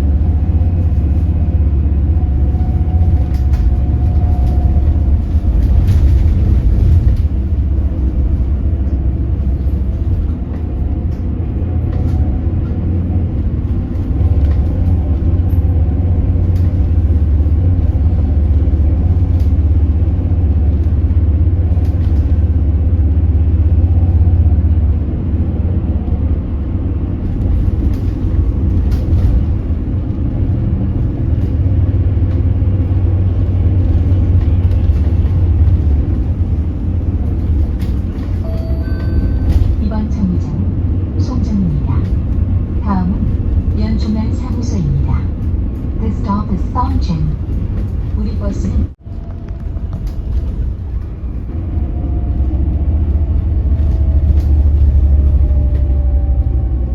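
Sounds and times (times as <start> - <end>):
bus engine low rumble: 0.0 - 56.9.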